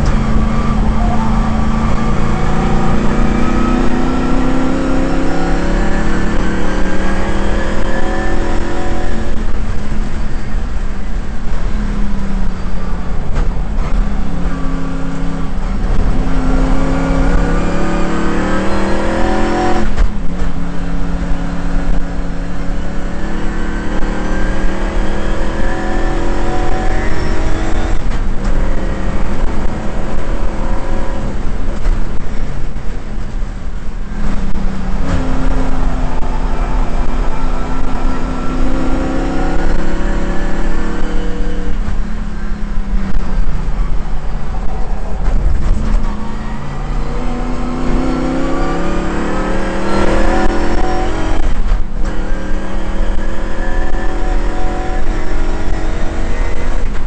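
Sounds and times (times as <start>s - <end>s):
racing car engine accelerating: 0.0s - 33.0s, 34.0s - 57.0s.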